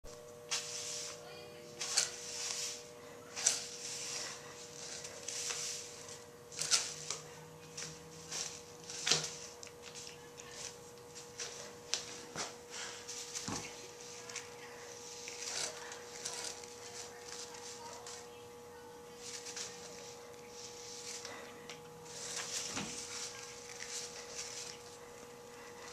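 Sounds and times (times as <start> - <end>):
push broom swishing on concrete: 0.4 - 18.4, 19.0 - 25.9.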